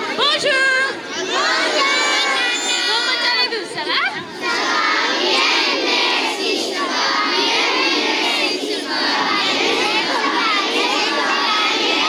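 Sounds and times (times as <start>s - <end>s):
crowd of children shouting: 0.0s - 12.0s.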